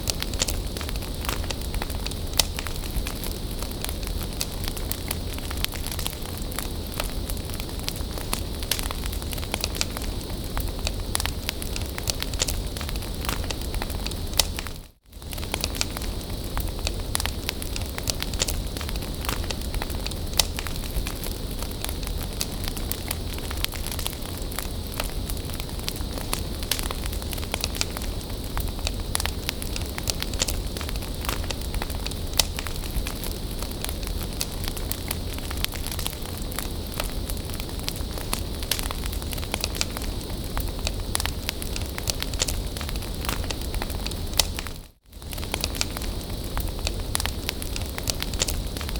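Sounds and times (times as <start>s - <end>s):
bonfire crackling and popping: 0.0s - 48.9s.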